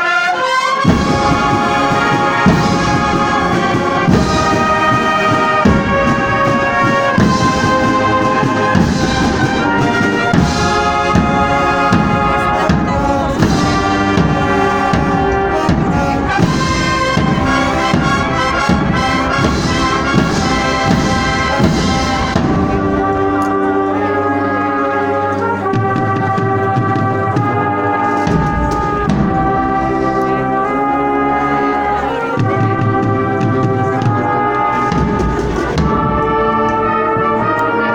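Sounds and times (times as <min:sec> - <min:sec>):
brass melody: 0:00.0 - 0:37.9
steady drum beat: 0:00.8 - 0:31.4, 0:32.0 - 0:37.5.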